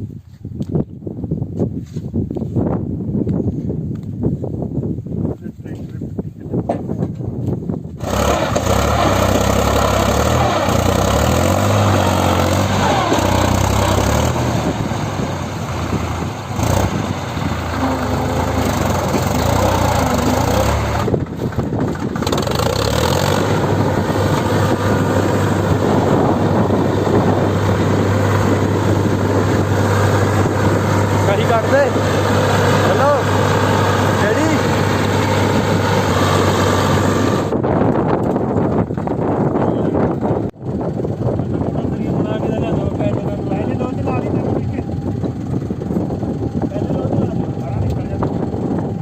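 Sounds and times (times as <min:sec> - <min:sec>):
tractor diesel engine running: 0:07.2 - 0:49.0.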